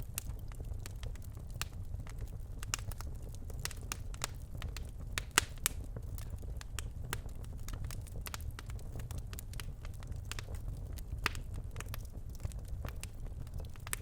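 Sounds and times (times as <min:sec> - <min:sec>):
logs crackling and popping in fire: 0:00.0 - 0:14.0.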